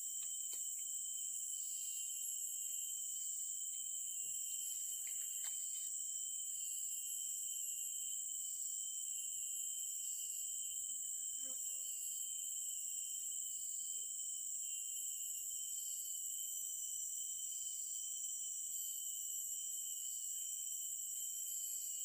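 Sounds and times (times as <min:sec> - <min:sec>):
insects high-pitched drone: 0:00.0 - 0:22.0.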